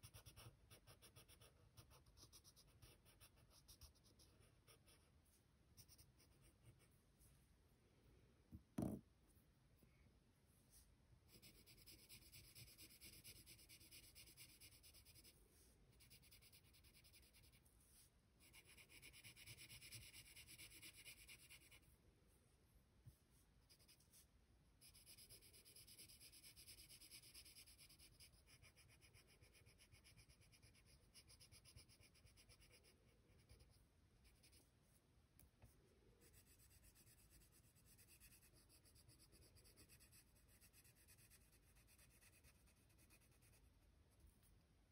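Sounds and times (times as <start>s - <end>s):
pencil scratching on paper: 0.0s - 7.0s, 11.3s - 17.7s, 18.4s - 21.8s, 23.6s - 34.6s, 36.2s - 44.4s.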